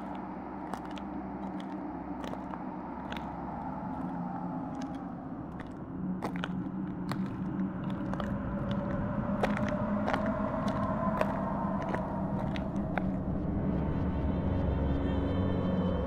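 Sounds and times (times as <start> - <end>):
crackling and crunching clicks: 0.0 - 13.3
low steady drone: 0.0 - 16.0.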